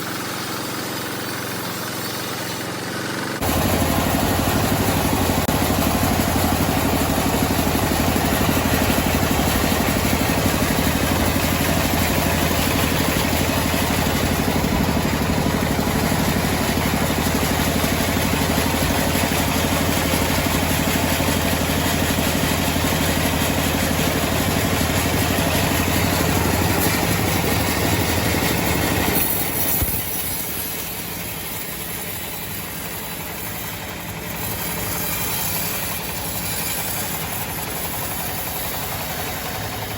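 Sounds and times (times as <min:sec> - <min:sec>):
engine-driven sawmill sawing log: 0:00.0 - 0:39.9.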